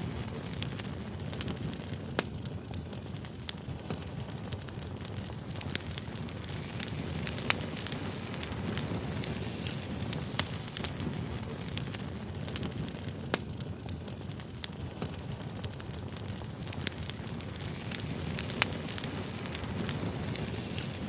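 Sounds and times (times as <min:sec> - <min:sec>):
fire rushing: 0:00.0 - 0:21.0
firewood crackling and popping: 0:00.0 - 0:21.0.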